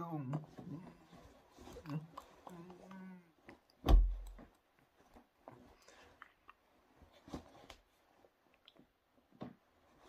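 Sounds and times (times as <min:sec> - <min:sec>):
faint clicks and rustles: 0:00.3 - 0:10.0.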